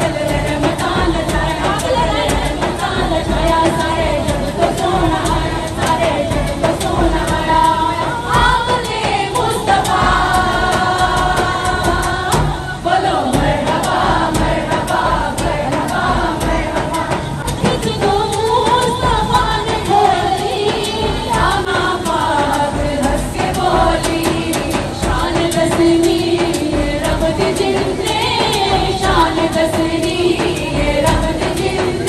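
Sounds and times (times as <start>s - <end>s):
women singing in unison: 0.0s - 32.0s.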